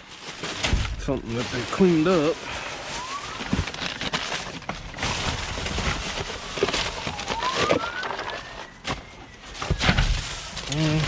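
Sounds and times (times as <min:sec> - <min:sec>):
trash rustling and knocking: 0:00.0 - 0:11.0
distant siren wailing: 0:01.7 - 0:11.0.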